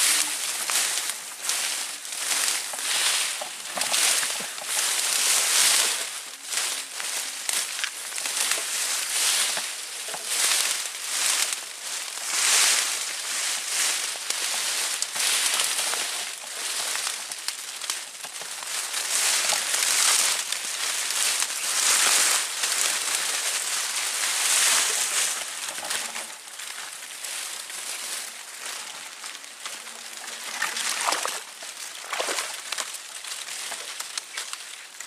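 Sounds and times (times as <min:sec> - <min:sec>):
leaves and twigs crackling underfoot: 0:00.0 - 0:35.0.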